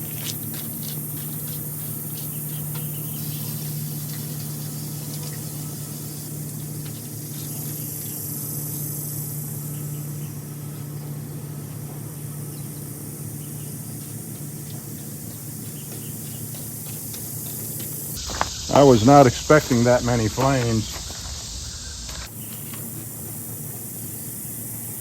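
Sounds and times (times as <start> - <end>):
motor humming: 0.0 - 25.0.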